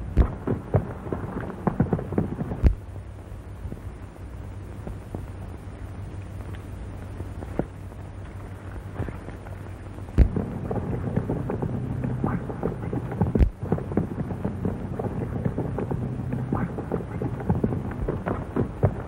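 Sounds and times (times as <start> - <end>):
film soundtrack hum and hiss: 0.0 - 19.0.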